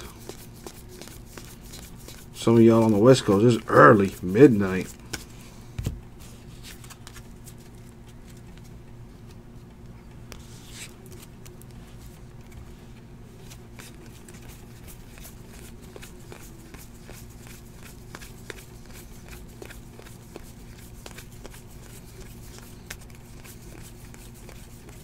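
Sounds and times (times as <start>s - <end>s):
steady low hum: 0.0s - 25.0s
trading cards flipped by hand: 0.2s - 3.0s, 4.0s - 8.7s, 10.3s - 12.6s, 13.4s - 25.0s.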